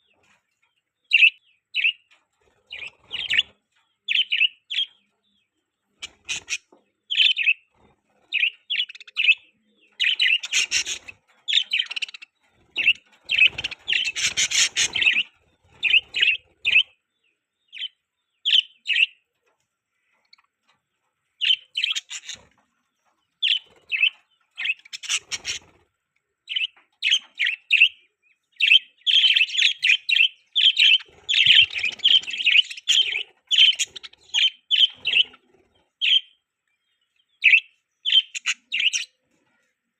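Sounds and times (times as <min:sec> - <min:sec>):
budgerigars chirping: 0:01.0 - 0:17.0, 0:17.7 - 0:19.2, 0:21.4 - 0:22.6, 0:23.4 - 0:25.8, 0:26.5 - 0:36.4, 0:37.2 - 0:39.2.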